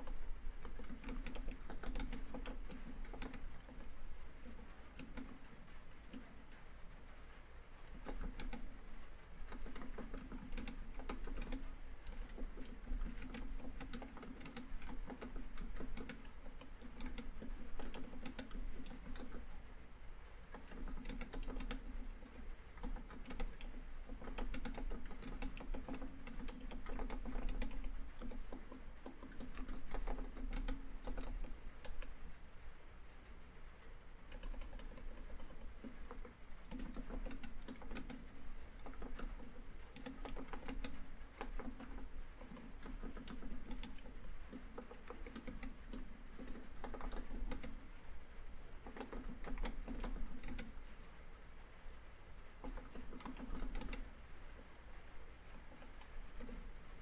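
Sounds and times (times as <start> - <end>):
laptop keyboard typing: 0.0 - 6.6, 7.8 - 19.7, 20.4 - 32.4, 34.1 - 51.0, 52.5 - 57.0.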